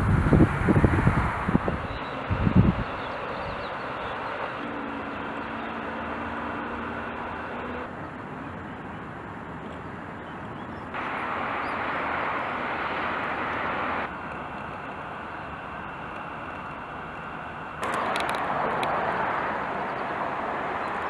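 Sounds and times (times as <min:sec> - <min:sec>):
road and wind noise inside car: 0:00.0 - 0:21.0.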